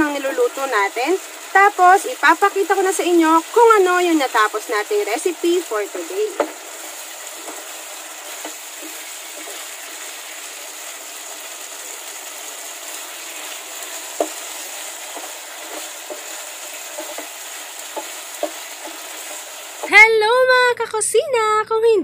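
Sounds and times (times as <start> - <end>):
meat sizzling in a frying pan: 0.0 - 20.1
spatula knocking and scraping pan: 0.1 - 20.0.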